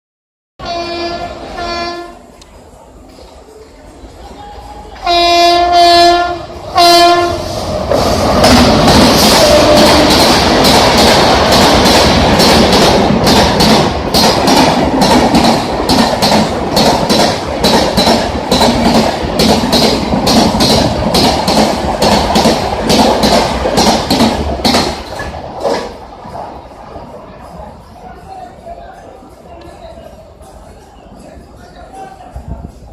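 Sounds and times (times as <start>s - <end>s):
train rushing past: 0.6s - 32.9s
train wheels clattering: 4.7s - 32.9s.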